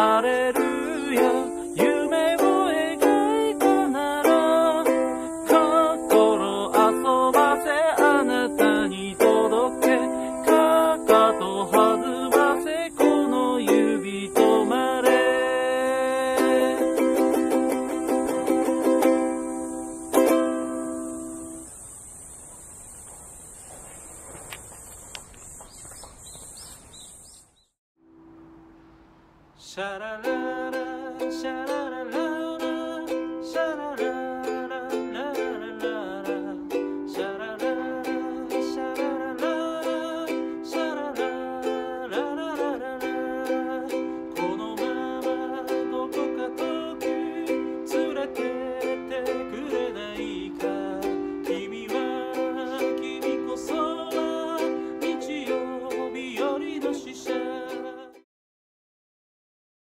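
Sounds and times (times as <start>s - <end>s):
ukulele strumming chords: 0.0s - 21.6s, 29.8s - 58.2s.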